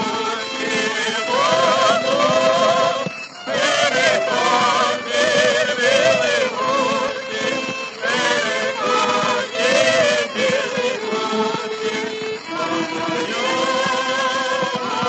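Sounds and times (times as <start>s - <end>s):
male vocal quartet singing in harmony: 0.0s - 15.0s
orchestral accompaniment: 0.0s - 15.0s.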